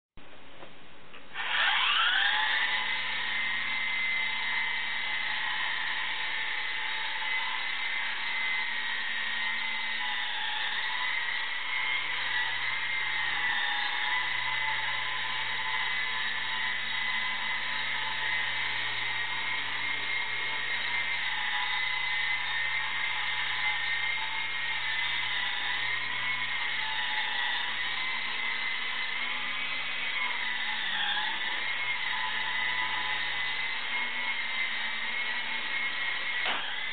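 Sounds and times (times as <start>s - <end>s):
toy helicopter motor whine: 1.3s - 36.9s.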